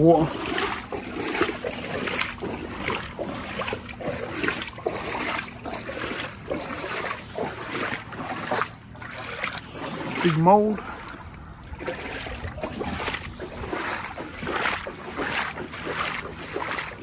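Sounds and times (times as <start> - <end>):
footsteps splashing through water: 0.0 - 17.0.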